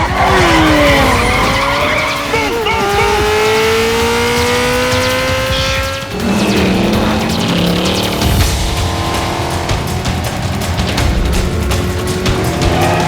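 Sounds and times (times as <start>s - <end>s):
car engines revving high: 0.0s - 13.0s
tires squealing: 0.0s - 13.0s.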